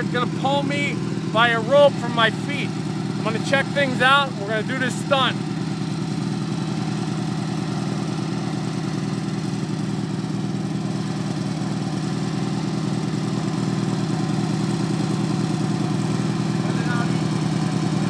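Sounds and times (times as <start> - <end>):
garden tractor engine idling: 0.0 - 18.0.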